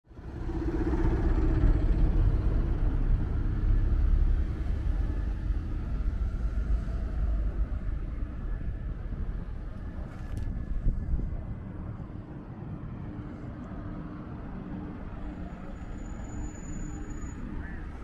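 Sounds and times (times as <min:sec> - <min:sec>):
road traffic rumble: 0:00.1 - 0:18.0.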